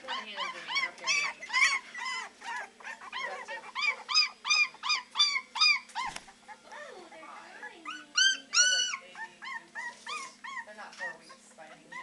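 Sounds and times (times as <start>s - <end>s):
puppies yelping: 0.0s - 12.0s.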